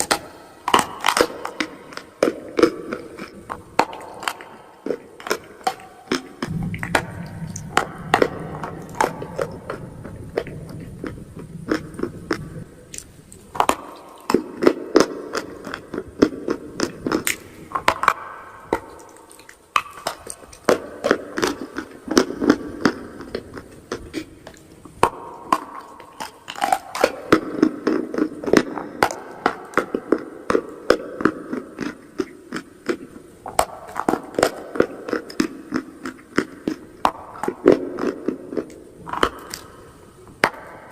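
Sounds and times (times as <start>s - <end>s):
chewing: 0.0s - 6.9s, 7.5s - 18.0s, 18.7s - 39.9s.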